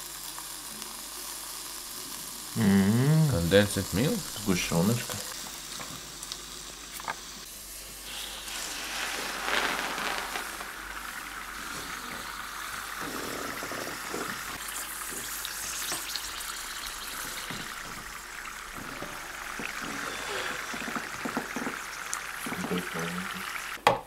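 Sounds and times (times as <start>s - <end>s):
liquid nitrogen hissing: 0.0s - 23.8s.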